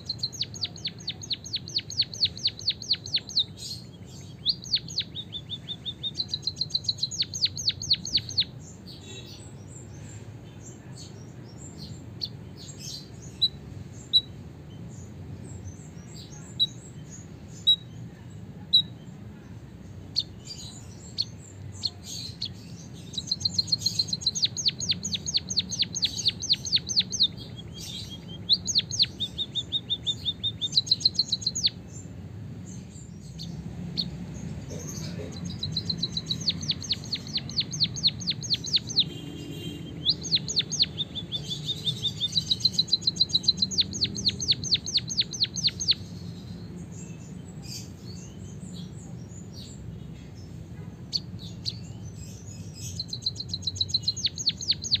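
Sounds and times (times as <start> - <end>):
bird singing rolling trills: 0.0 - 55.0.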